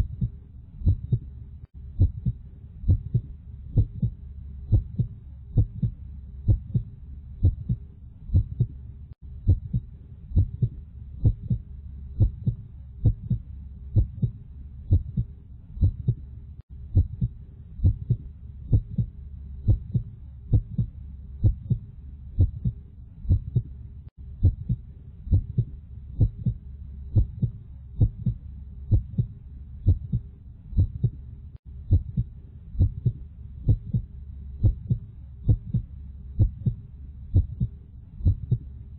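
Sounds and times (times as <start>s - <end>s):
heartbeat thumps: 0.0s - 38.8s
constant low hum: 0.0s - 38.9s.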